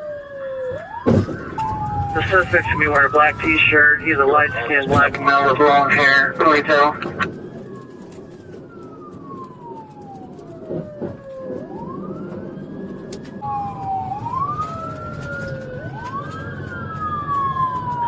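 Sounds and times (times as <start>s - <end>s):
police sirens wailing: 0.0s - 18.0s
vehicle and road noise: 1.1s - 18.0s.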